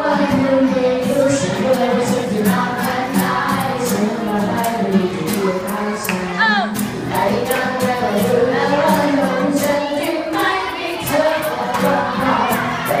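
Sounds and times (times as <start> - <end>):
group singing with children: 0.0 - 13.0
song with steady beat: 0.0 - 13.0.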